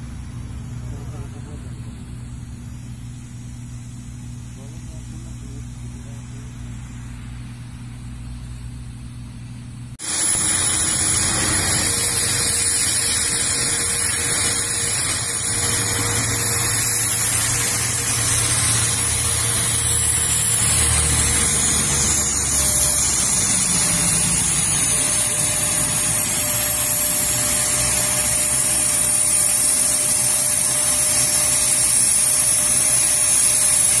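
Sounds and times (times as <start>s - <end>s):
high engine whine: 0.0s - 34.0s
turboprop engines running: 0.0s - 34.0s.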